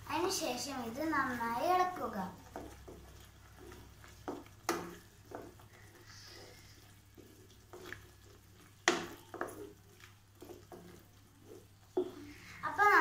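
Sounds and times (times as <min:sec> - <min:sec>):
wet stirring in a pot: 0:00.0 - 0:13.0
spatula knocking and scraping pot: 0:00.7 - 0:13.0.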